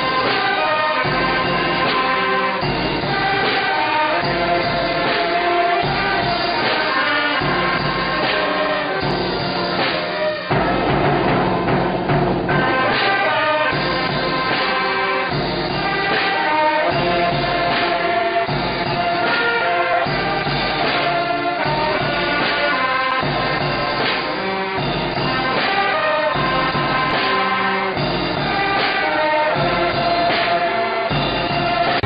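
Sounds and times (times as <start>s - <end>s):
brass band playing: 0.0s - 32.0s.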